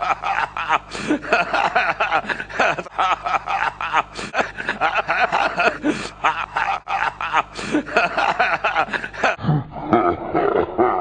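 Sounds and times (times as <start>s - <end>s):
man chuckling and snickering: 0.0s - 11.0s.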